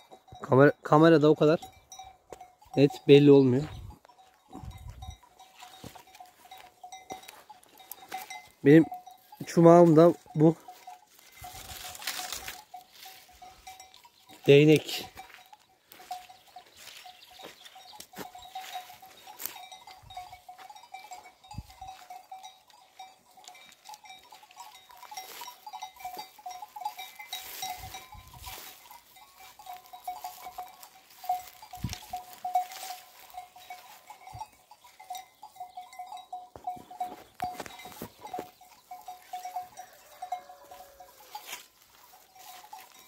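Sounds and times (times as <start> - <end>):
sheep bells clinking: 0.0 - 43.0.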